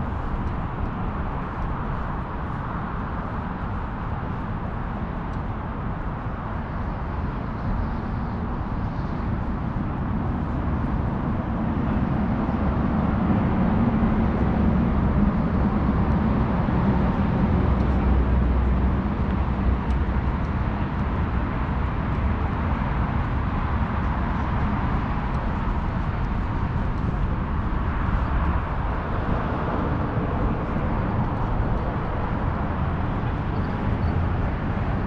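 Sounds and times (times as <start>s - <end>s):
road traffic rumble: 0.0s - 35.0s
wind on microphone: 0.0s - 35.0s.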